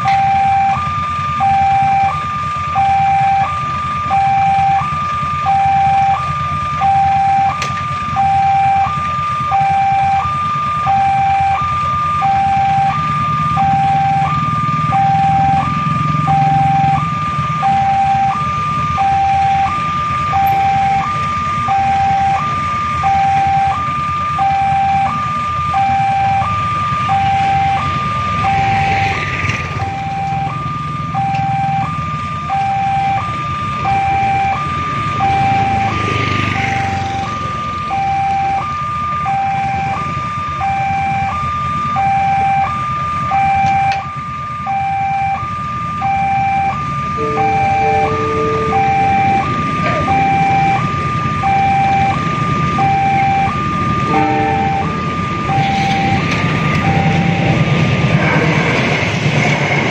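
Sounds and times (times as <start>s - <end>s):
level crossing two-tone alarm: 0.0s - 59.9s.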